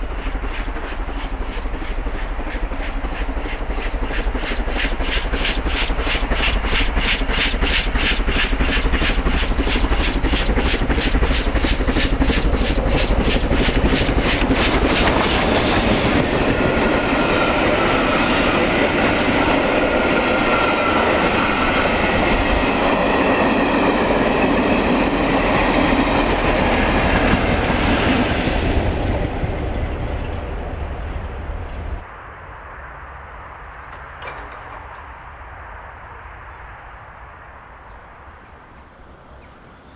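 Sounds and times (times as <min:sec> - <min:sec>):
steam locomotive exhaust beating: 0:00.0 - 0:32.0
train coaches clattering over rails: 0:00.3 - 0:31.9, 0:33.8 - 0:35.4.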